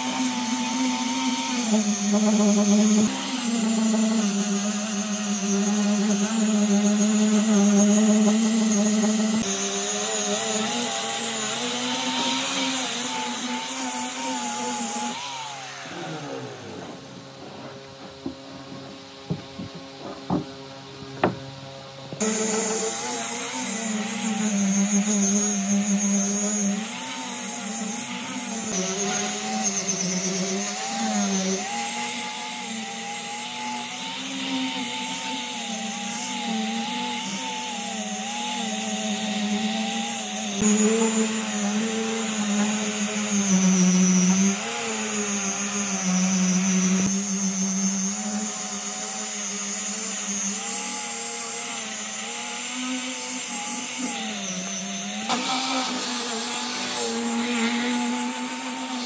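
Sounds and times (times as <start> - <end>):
electric power tool cutting wood: 0.0 - 59.0.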